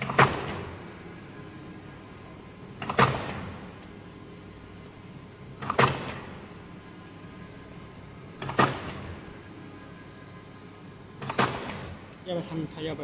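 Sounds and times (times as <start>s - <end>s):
machine running noise: 0.0s - 13.0s.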